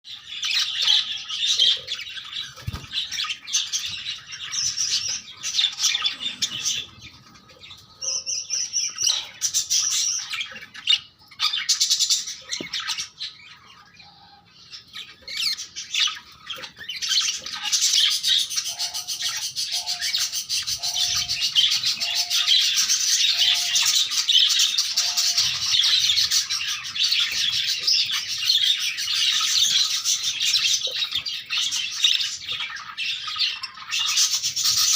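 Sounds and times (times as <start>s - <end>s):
budgerigars chirping and chattering: 0.1s - 34.9s.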